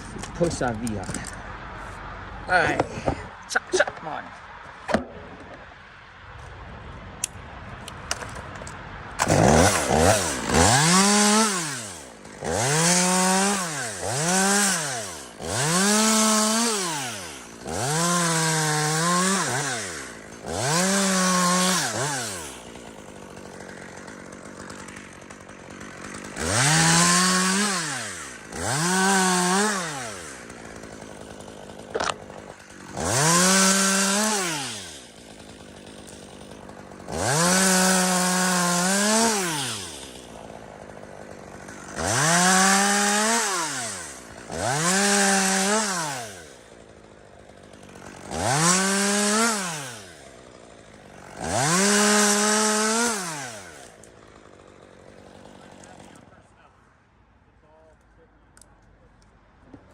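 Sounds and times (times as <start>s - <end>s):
chainsaw revving: 0.0s - 1.4s, 9.2s - 56.7s.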